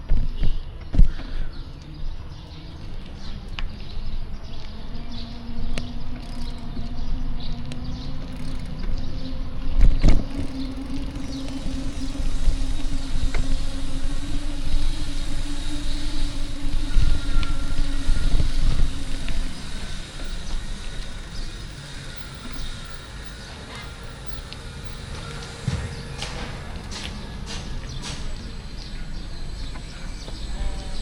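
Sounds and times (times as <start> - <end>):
street traffic: 0.0 - 31.0
vehicle engine running: 2.3 - 31.0.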